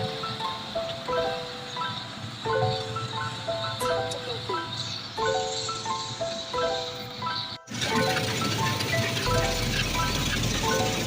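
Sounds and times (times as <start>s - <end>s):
repeating melody of short notes: 0.0s - 11.0s.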